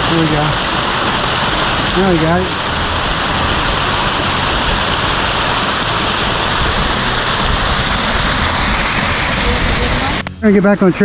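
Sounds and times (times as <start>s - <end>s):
waterfall pouring over rocks: 0.0s - 10.3s.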